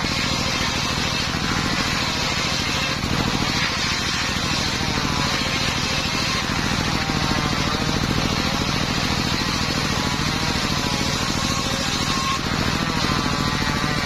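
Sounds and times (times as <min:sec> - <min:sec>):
circular saw running: 0:00.0 - 0:14.0.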